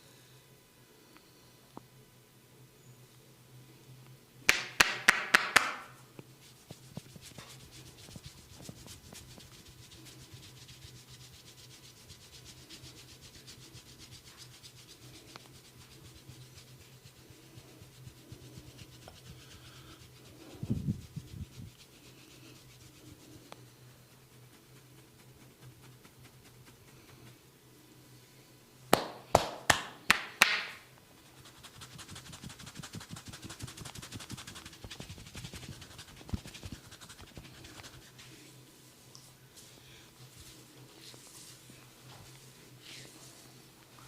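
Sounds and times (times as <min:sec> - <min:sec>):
steady low hum: 0:00.0 - 0:44.0
hands rubbing through hair: 0:04.5 - 0:27.5, 0:29.0 - 0:38.5, 0:40.2 - 0:43.8.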